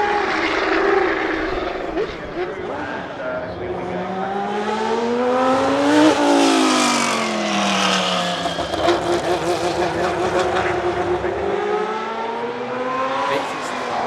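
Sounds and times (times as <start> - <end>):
race car passing at speed: 0.0 - 14.0.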